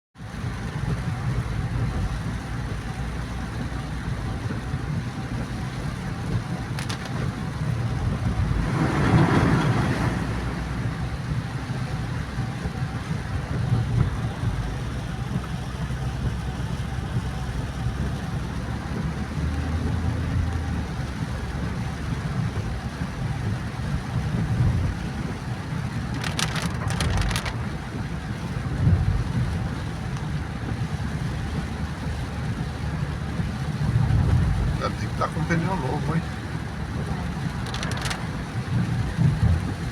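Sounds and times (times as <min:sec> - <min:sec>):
car engine and tyre rumble: 0:00.2 - 0:39.9
tyres hissing on wet road: 0:00.2 - 0:39.9.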